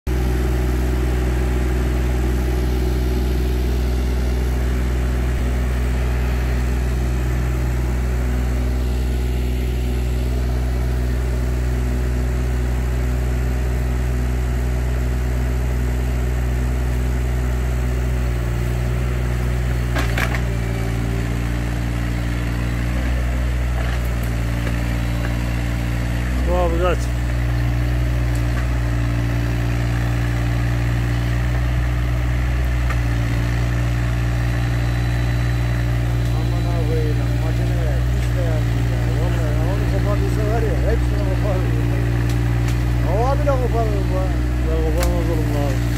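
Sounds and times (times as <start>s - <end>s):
excavator diesel engine running: 0.1s - 45.9s.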